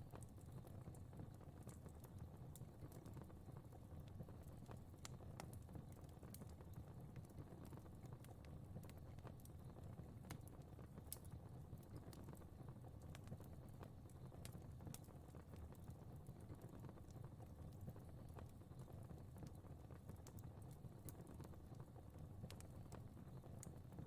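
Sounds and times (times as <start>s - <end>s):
low rumble of flames: 0.0s - 24.0s
fire popping and snapping: 0.1s - 24.0s.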